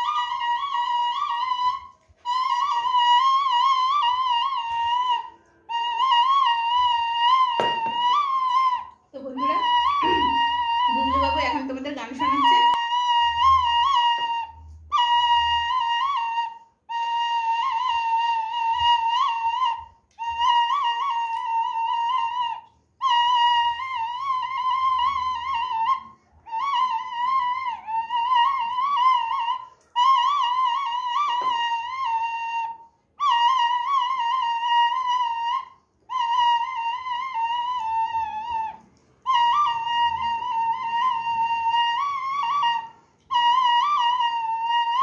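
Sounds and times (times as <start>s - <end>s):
bamboo flute melody: 0.0s - 45.0s.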